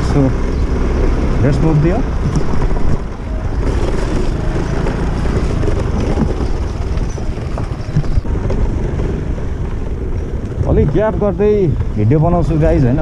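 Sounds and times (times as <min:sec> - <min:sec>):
scooter engine and road rumble: 0:00.0 - 0:13.0.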